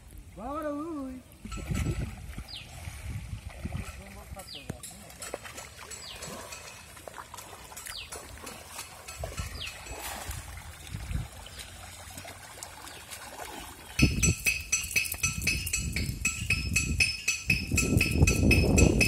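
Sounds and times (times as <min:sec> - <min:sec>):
water splashing: 0:00.0 - 0:16.2
river water sloshing: 0:00.3 - 0:16.2.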